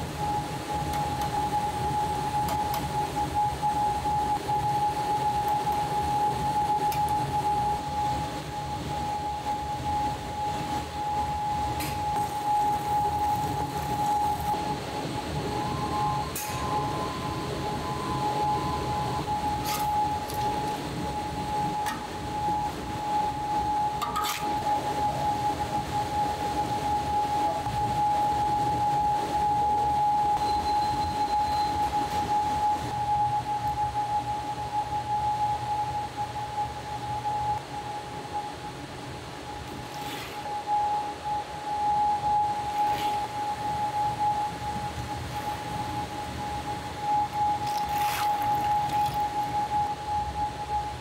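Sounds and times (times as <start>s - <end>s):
kitchen machinery whine and rumble: 0.0s - 51.0s.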